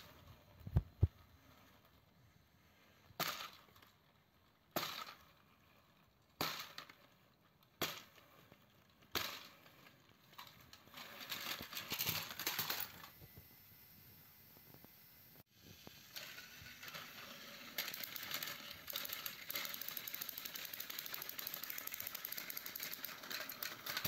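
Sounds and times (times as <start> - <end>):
toy trains clacking on plastic track: 0.0 - 13.1, 15.6 - 24.0.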